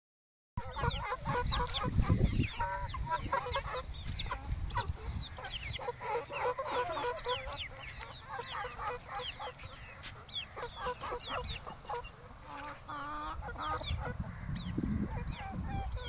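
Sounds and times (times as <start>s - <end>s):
chickens clucking and chirping: 0.6s - 16.0s.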